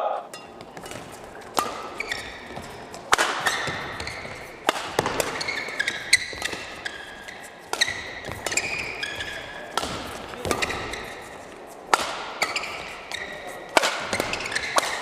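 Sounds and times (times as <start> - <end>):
rackets striking shuttlecock: 0.3 - 15.0
shoes squeaking on floor: 0.3 - 15.0.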